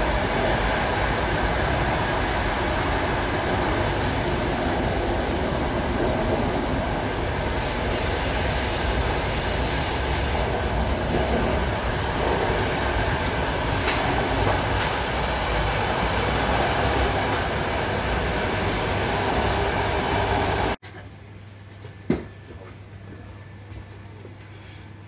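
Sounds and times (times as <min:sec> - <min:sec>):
train wheels rumbling on rails: 0:00.0 - 0:20.8.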